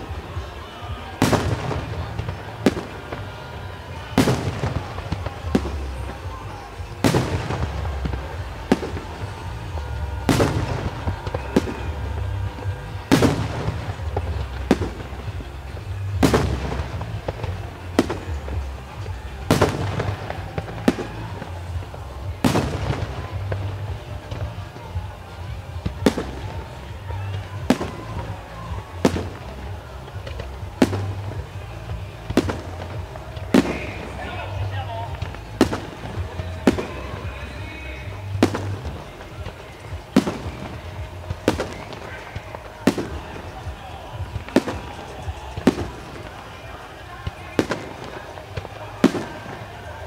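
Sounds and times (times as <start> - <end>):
firework bangs with echo: 0.0 - 50.0.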